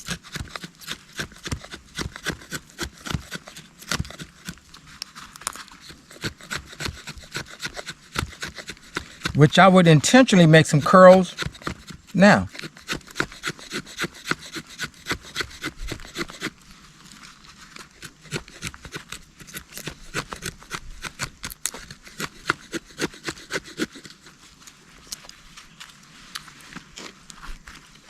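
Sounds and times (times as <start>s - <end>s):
knife shaving wood: 0.0s - 28.0s.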